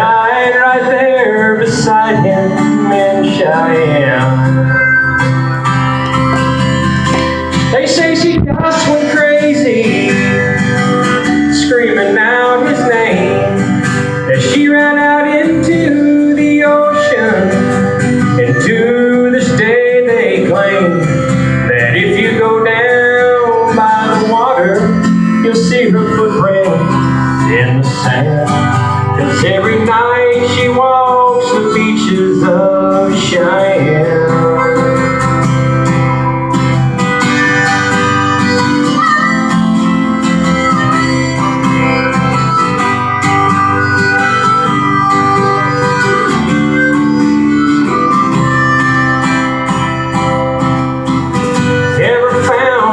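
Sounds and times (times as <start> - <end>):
man singing country song: 0.0 - 52.9
strummed acoustic guitar: 0.0 - 52.9.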